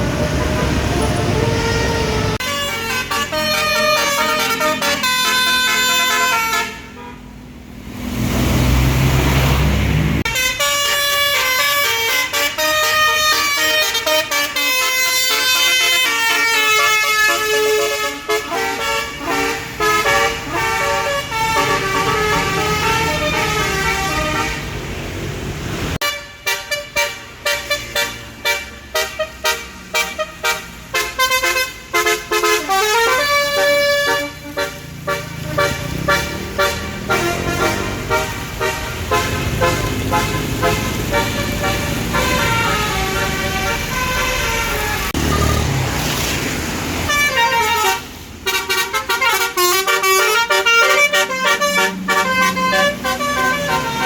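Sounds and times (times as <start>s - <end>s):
bus air horn melody: 0.0s - 7.3s, 10.2s - 24.9s, 26.0s - 45.7s, 47.1s - 54.0s.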